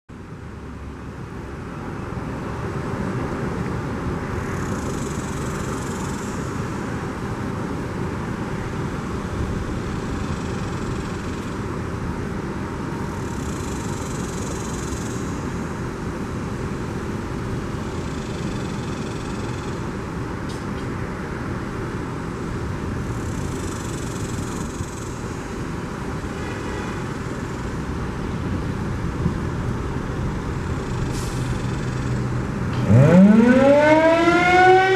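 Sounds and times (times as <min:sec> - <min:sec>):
road traffic noise: 0:00.1 - 0:34.9
vehicles passing: 0:00.1 - 0:34.9.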